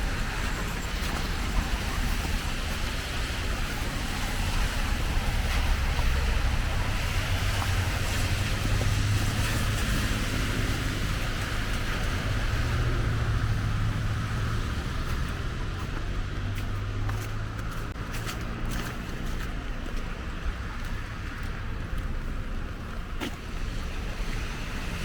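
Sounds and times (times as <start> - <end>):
rain: 0.0 - 16.5, 19.5 - 25.0
traffic on wet streets: 0.0 - 25.0.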